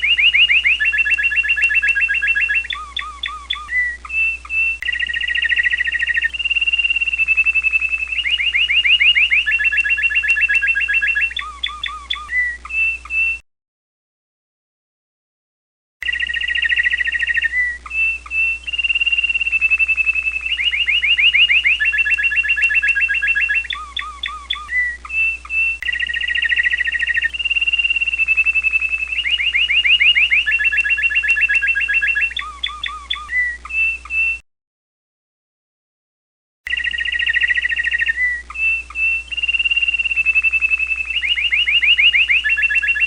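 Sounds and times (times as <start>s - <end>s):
canary singing trills: 0.0s - 13.4s, 16.0s - 34.4s, 36.7s - 43.0s.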